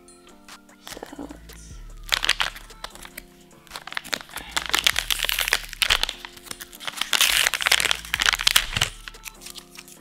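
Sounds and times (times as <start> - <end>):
background music: 0.0 - 10.0
plastic wipes pack crinkling: 0.8 - 1.3, 2.0 - 10.0.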